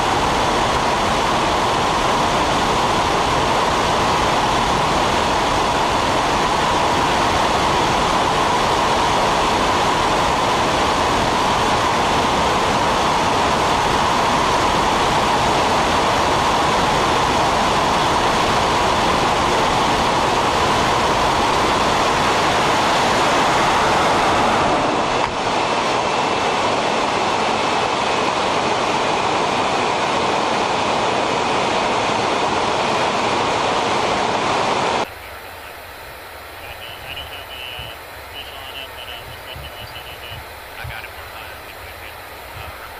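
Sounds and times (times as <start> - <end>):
loud rush of wind: 0.0 - 35.1
aircraft engine noise: 0.0 - 42.9.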